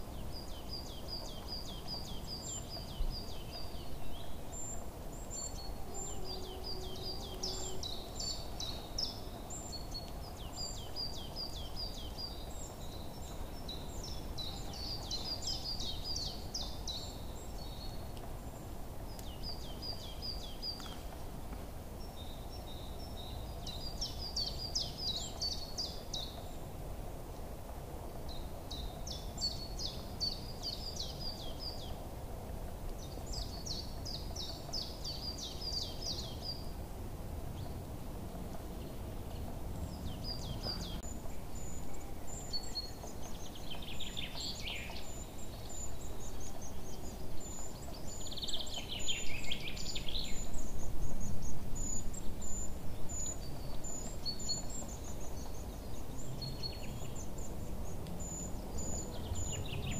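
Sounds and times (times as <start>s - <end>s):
low background noise: 0.0s - 59.9s.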